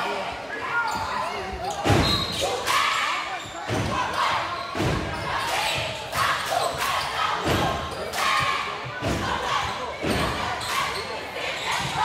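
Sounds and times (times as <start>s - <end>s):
voices echoing in hall: 0.0s - 12.0s.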